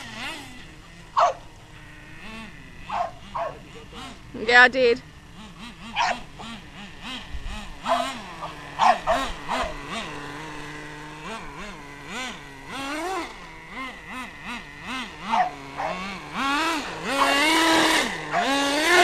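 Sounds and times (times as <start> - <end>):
nitro engine revving: 0.0 - 19.0.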